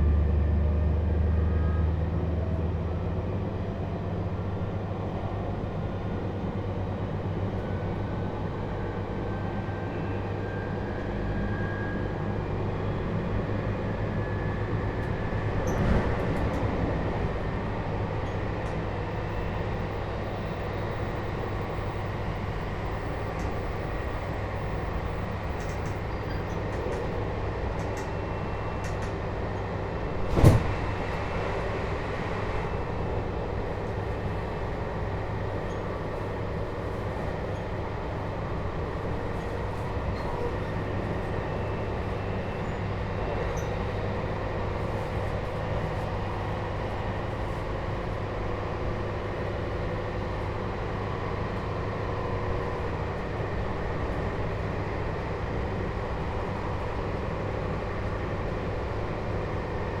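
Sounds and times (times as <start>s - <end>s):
wheels rumbling on rail: 0.0s - 60.0s.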